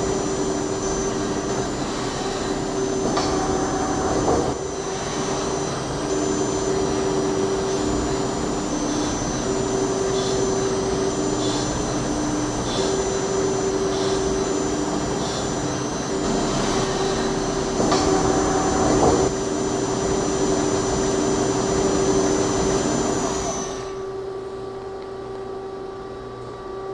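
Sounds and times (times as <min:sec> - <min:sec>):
lathe machine whir: 0:00.0 - 0:26.1.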